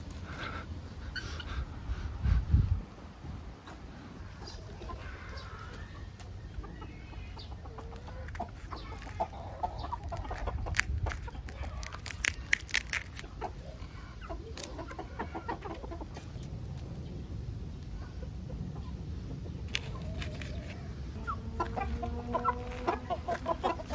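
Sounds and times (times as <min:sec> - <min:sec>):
birds clucking and calling: 0:00.2 - 0:02.3, 0:03.5 - 0:23.9.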